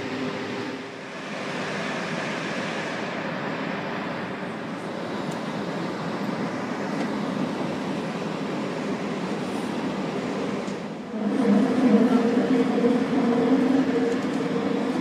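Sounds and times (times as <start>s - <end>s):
train wheels and running gear: 1.0s - 11.1s, 12.6s - 15.0s.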